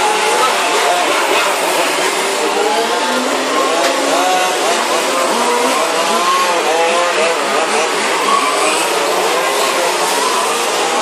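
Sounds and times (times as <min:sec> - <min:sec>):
model car engines revving: 0:00.0 - 0:11.0.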